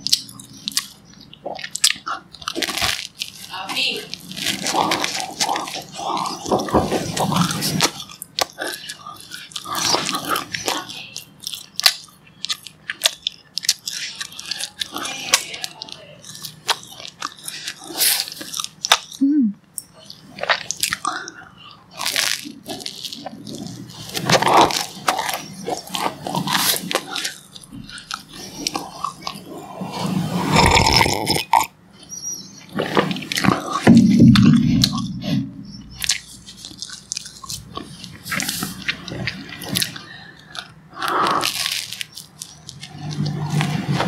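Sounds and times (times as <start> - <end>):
biting and chewing bread: 0.0 - 44.0
wet mouth sounds: 0.0 - 44.0.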